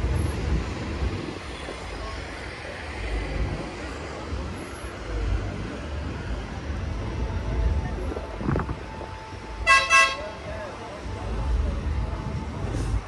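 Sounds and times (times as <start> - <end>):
tram rumbling past: 0.0 - 13.0.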